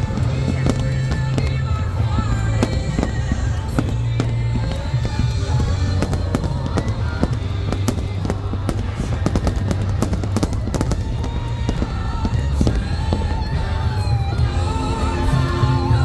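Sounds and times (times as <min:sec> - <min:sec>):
fireworks bangs and crackles: 0:00.0 - 0:16.0
music playing: 0:00.0 - 0:16.0
steady low rumble: 0:00.0 - 0:16.0.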